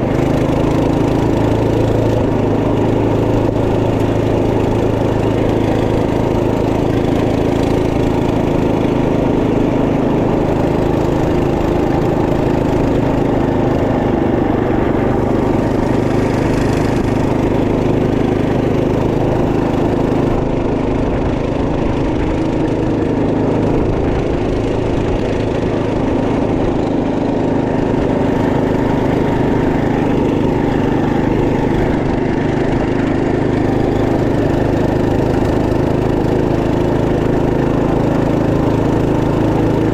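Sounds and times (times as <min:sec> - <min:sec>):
minibike engine running: 0:00.0 - 0:39.9.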